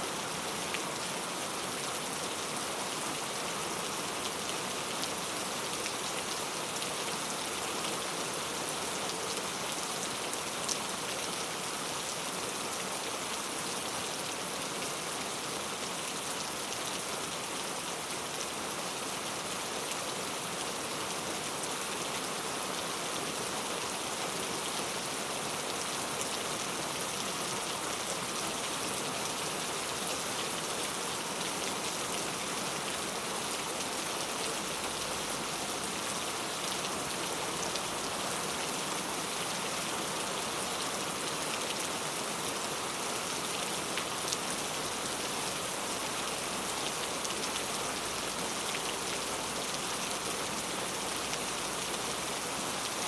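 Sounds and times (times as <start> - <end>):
heavy rain on hard surfaces: 0.0 - 53.0.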